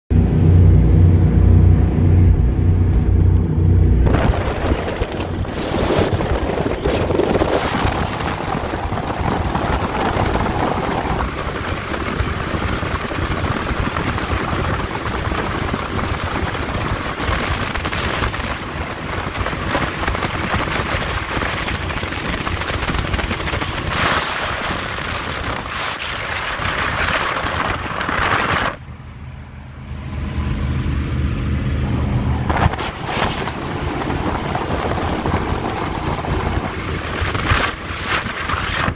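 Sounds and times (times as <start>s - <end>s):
wind and water rush: 0.1s - 28.8s, 31.6s - 38.9s
powerboat engine drone: 0.1s - 38.9s.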